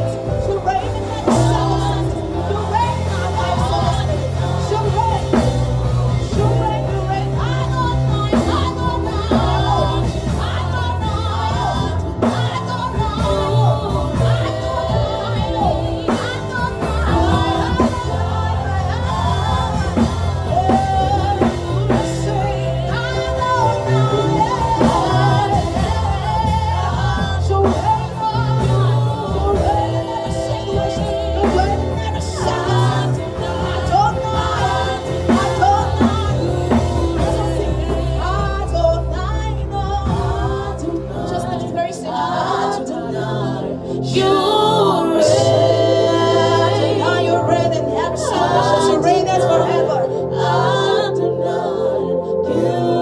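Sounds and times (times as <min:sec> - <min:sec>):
person singing: 0:00.0 - 0:53.0
worship band playing: 0:00.0 - 0:53.0.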